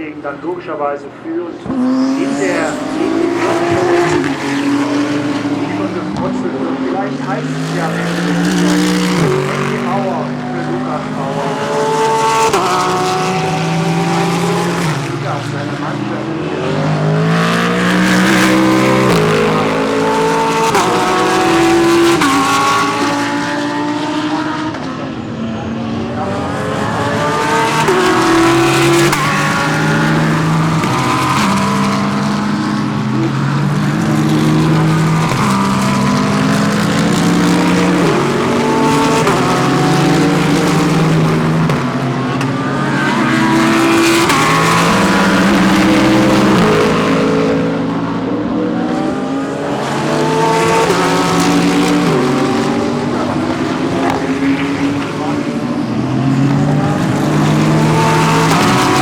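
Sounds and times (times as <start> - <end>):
race car engines shifting gears: 0.0 - 59.0.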